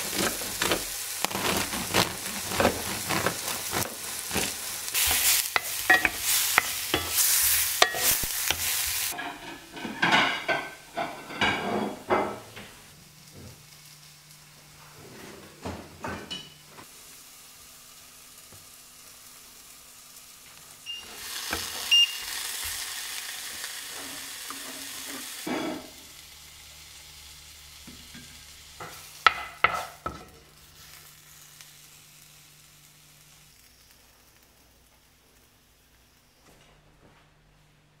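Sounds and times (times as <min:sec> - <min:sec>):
mushrooms sizzling in skillet: 0:00.0 - 0:14.9, 0:15.6 - 0:36.4.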